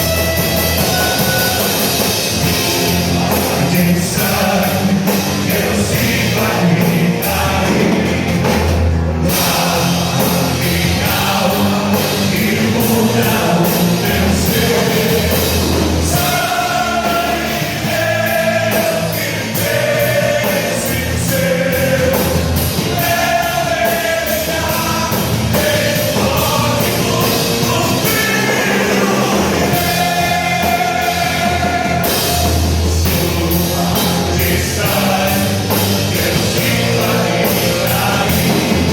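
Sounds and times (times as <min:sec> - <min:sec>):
people singing long notes: 0:00.0 - 0:38.9
rock band with drums: 0:00.0 - 0:38.9.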